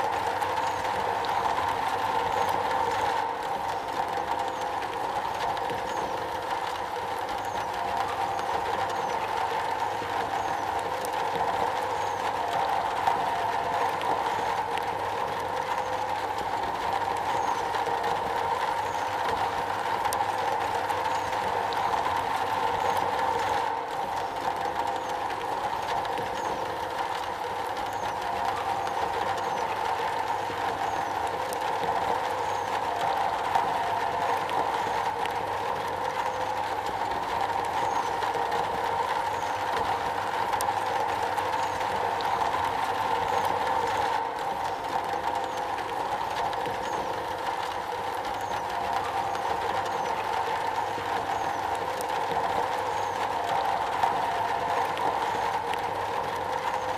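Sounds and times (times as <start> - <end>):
rain on a metal roof: 0.0 - 56.9.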